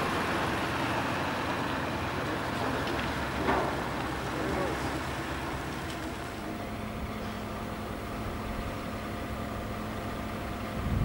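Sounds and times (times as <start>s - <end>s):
heavy vehicle engine idling: 0.0s - 11.0s.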